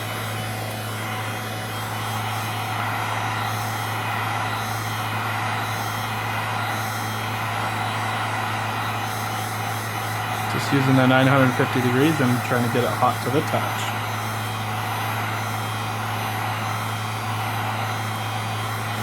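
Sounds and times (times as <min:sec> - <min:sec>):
heat gun blowing: 0:00.0 - 0:19.0.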